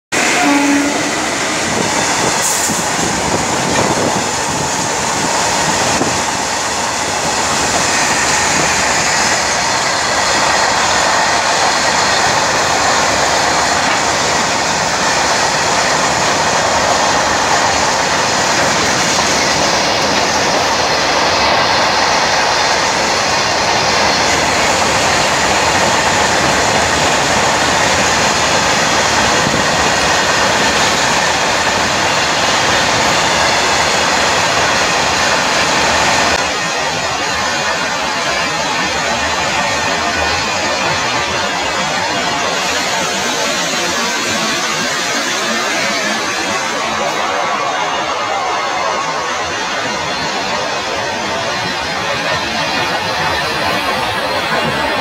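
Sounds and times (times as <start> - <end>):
freight train running past: 0.1 - 55.0.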